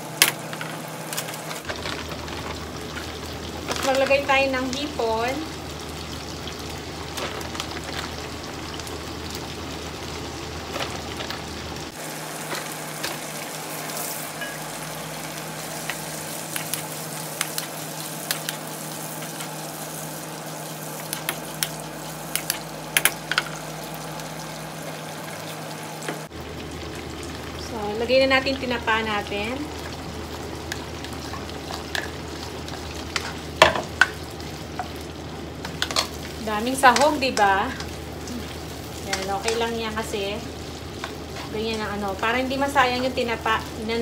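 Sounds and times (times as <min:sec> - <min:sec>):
shrimp sizzling in a pan: 0:00.0 - 0:44.0.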